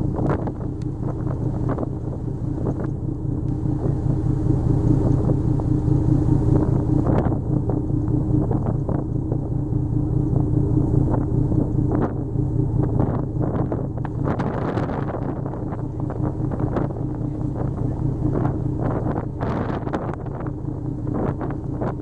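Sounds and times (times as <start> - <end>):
boat engine humming: 0.0 - 22.0
wind buffeting microphone: 0.0 - 22.0.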